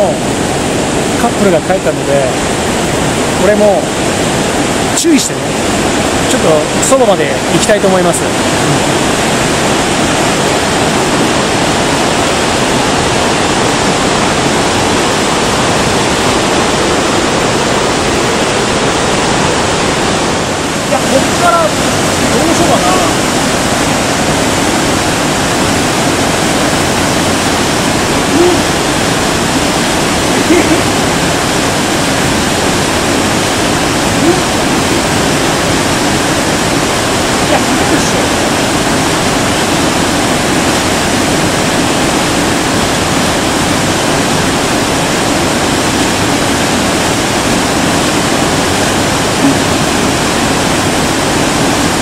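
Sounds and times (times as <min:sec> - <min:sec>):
river rushing over boulders: 0:00.0 - 0:52.0.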